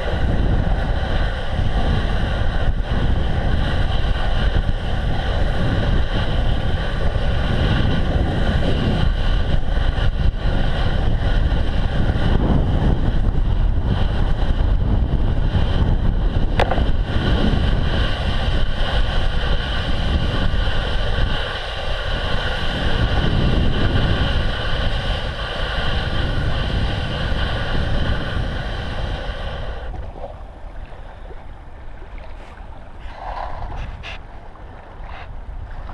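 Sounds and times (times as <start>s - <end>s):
bicycle rumbling over snow: 0.0s - 30.0s, 32.4s - 34.2s
constant hum: 0.0s - 35.9s
wind on microphone: 0.0s - 35.9s.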